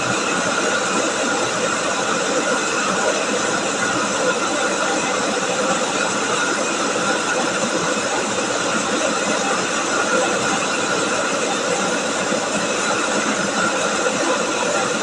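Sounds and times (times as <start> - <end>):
rice milling machine running: 0.0 - 15.0.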